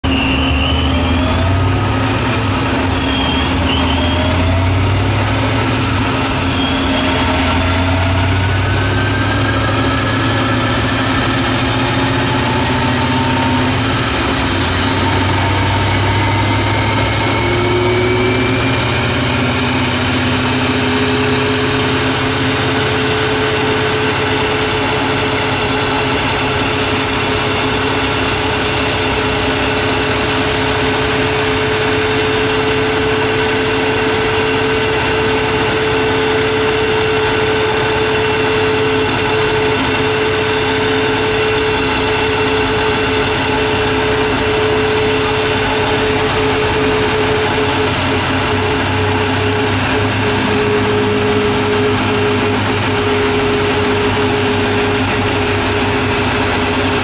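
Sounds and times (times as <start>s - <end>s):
car engine running on dyno: 0.0s - 57.0s.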